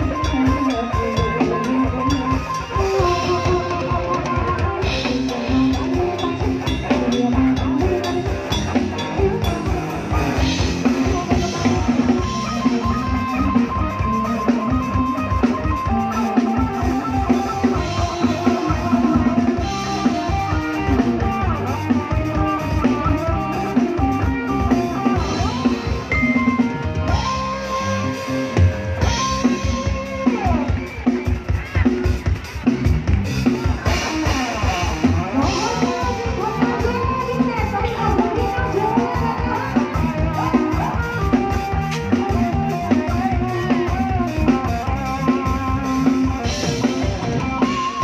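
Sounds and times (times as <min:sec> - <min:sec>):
drum kit beat: 0:00.0 - 0:48.0
live band playing: 0:00.0 - 0:48.0.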